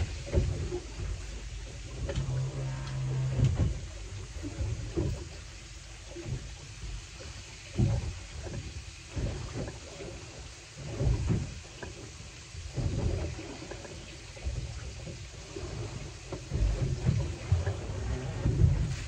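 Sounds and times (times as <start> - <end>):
water slapping against boat hull: 0.0 - 19.0.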